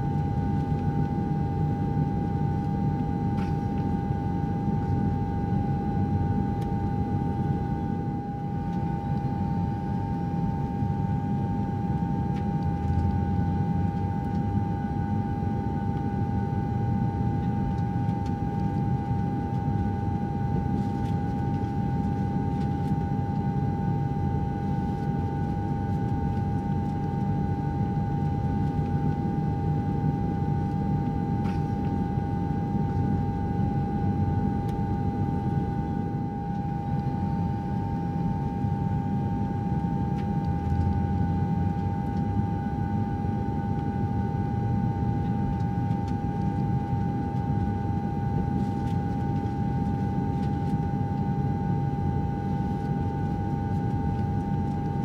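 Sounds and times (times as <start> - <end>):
cabin hum: 0.0 - 55.0
jet engine rumble: 0.1 - 55.0.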